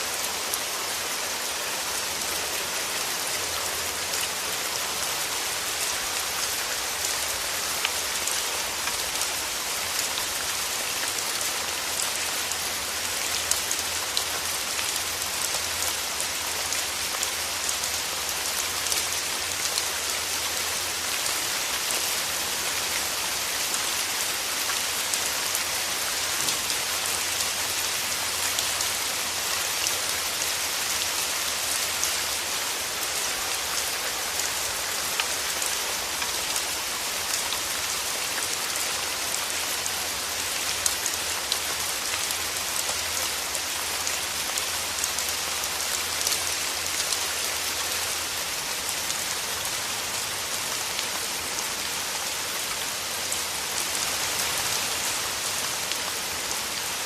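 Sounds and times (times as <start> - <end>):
rain falling through trees: 0.0 - 57.0
raindrops pattering on leaves: 0.0 - 57.0.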